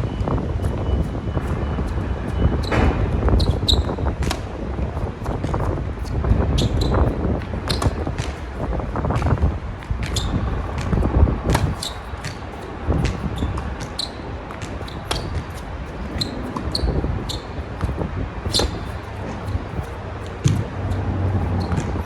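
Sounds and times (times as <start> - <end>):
wind rumble on microphone: 0.0 - 22.0
balls bouncing on hard court: 0.6 - 22.0
tennis balls struck by rackets: 2.3 - 22.0.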